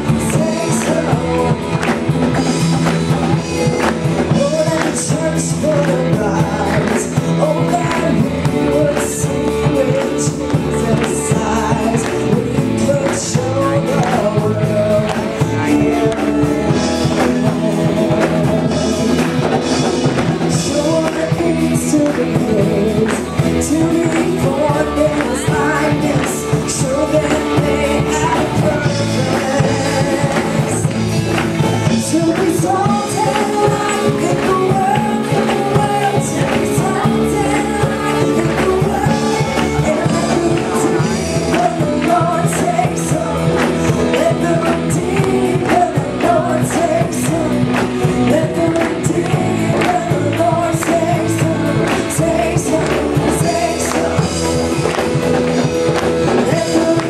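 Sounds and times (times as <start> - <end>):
rock worship band playing: 0.0 - 57.0
woman singing: 0.0 - 57.0.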